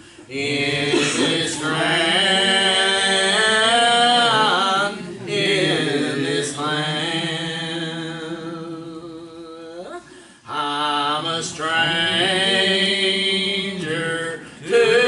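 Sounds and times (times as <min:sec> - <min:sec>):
church choir singing gospel: 0:00.0 - 0:15.0.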